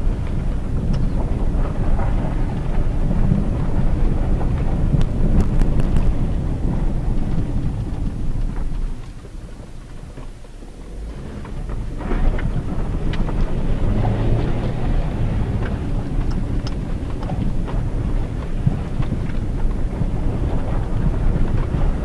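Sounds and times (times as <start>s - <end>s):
engine and tyre rumble: 0.0s - 22.0s
stones crunching under tyres: 0.0s - 22.0s.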